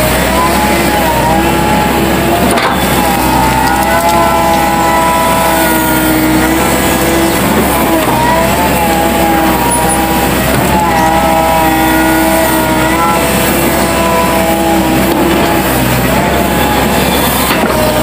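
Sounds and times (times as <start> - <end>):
excavator engine whining under load: 0.0 - 18.0.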